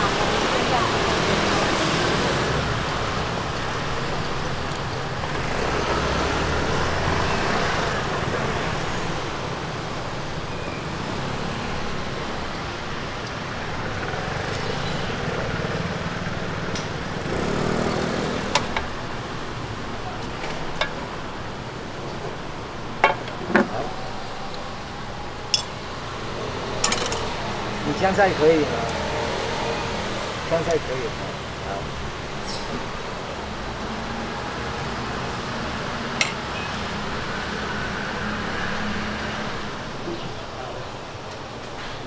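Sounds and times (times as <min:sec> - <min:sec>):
traffic noise: 0:00.0 - 0:42.0.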